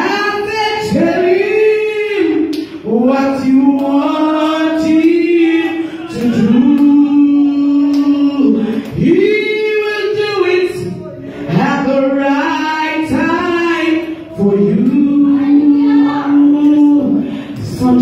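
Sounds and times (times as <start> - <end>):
person singing unaccompanied: 0.0 - 18.0.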